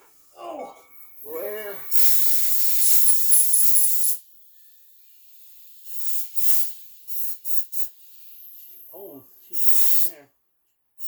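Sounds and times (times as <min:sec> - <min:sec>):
aerosol spray hissing: 0:00.9 - 0:10.2.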